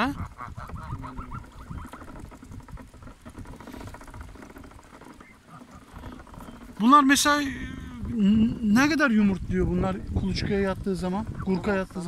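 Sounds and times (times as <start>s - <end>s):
geese chattering calls: 0.0s - 8.9s, 11.0s - 12.0s.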